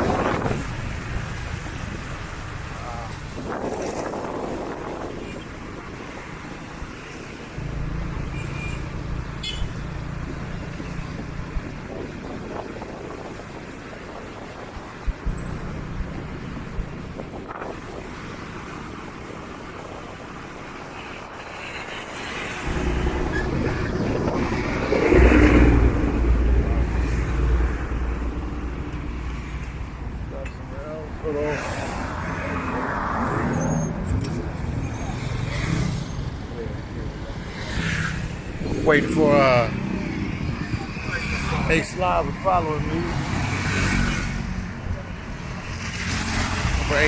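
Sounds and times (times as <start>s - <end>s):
street traffic noise: 0.0s - 47.0s.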